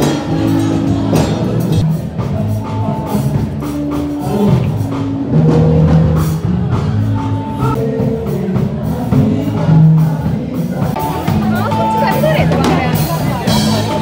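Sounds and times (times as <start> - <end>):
music with drum beat: 0.0 - 14.0.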